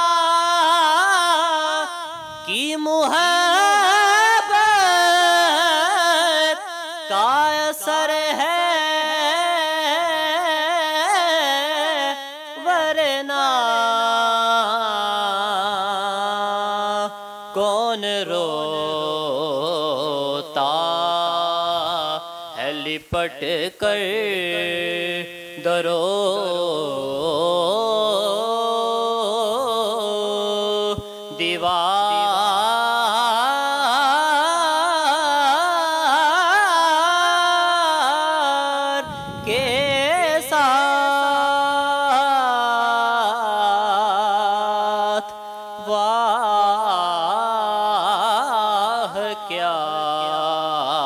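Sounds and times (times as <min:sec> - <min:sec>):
man singing unaccompanied: 0:00.0 - 0:51.0
young man reciting devotional poem: 0:00.0 - 0:51.0.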